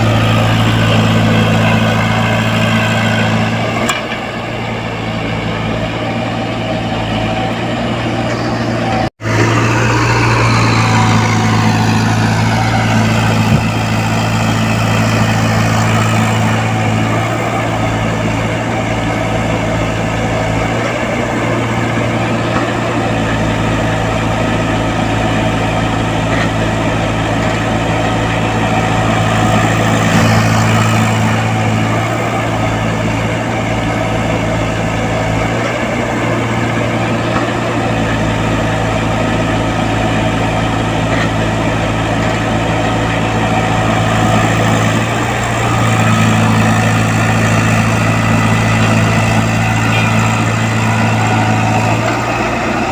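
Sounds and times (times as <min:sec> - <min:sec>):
excavator diesel engine running: 0:00.0 - 0:52.9
hydraulic whine: 0:00.0 - 0:52.9.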